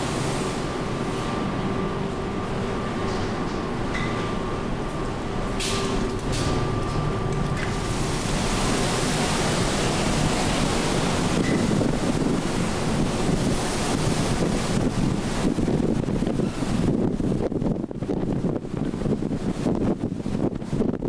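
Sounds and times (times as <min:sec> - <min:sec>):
ship machinery hum: 0:00.0 - 0:21.0
ship rumble and water wash: 0:00.0 - 0:21.0
wind rushing over microphone: 0:00.0 - 0:21.0.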